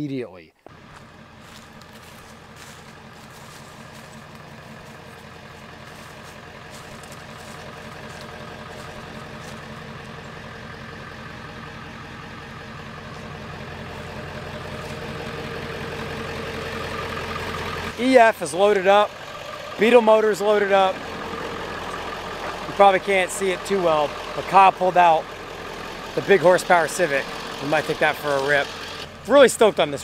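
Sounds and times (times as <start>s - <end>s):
truck engine idling: 0.6s - 30.0s.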